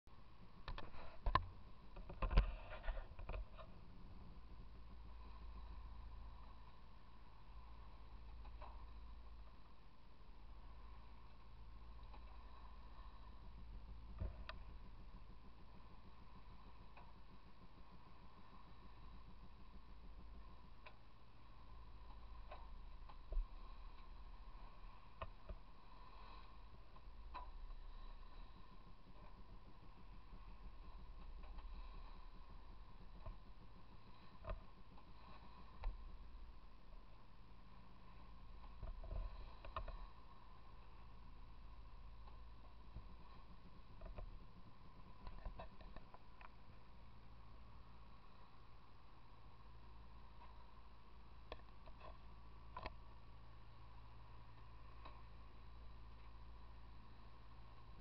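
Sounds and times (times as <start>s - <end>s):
steady low rumble: 0.0s - 58.0s
light clicks and creaks: 0.4s - 58.0s.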